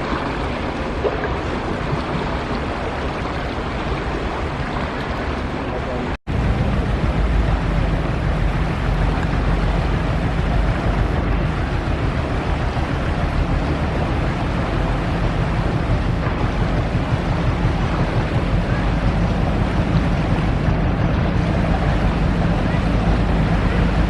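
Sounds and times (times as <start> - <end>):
ferry engine humming: 0.0 - 24.0
water noise: 0.0 - 24.0
wind: 0.0 - 24.0.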